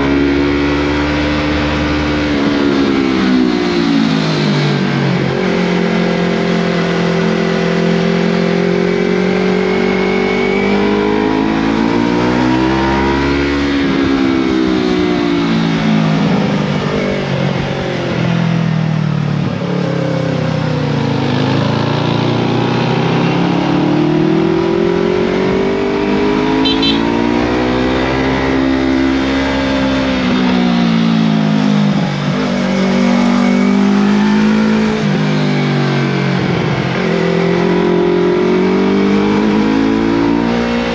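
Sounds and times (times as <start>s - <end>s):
motorcycle engine rising and falling: 0.0s - 40.9s.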